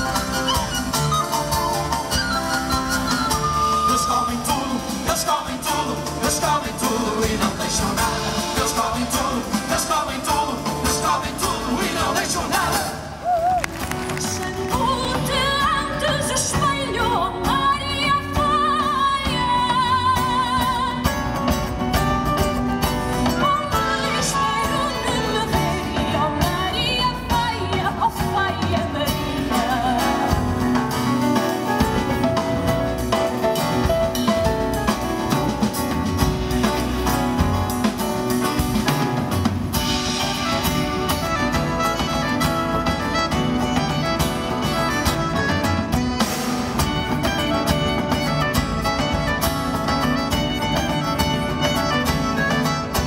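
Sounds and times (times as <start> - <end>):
acoustic guitar: 0.0 - 53.0
live band playing: 0.0 - 53.0.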